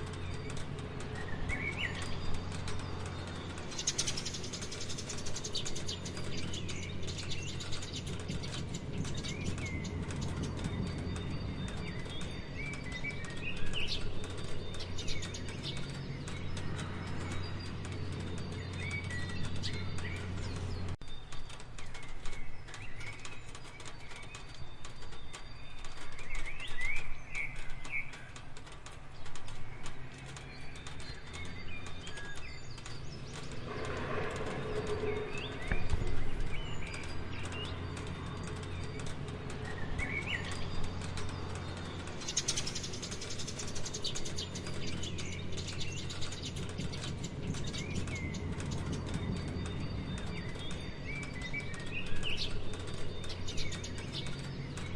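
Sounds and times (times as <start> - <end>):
rain pattering: 0.0 - 54.9
small birds chirping: 0.0 - 54.9.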